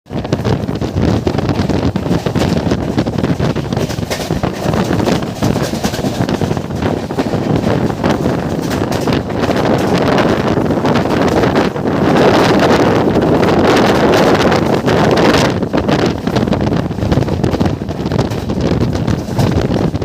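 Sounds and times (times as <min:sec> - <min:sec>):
wind buffeting microphone: 0:00.0 - 0:20.0
train rushing rumble: 0:00.1 - 0:20.0.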